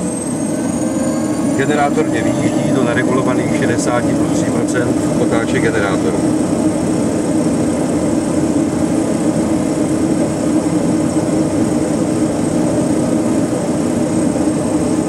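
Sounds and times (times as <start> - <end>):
turboprop engine idling: 0.0 - 15.0.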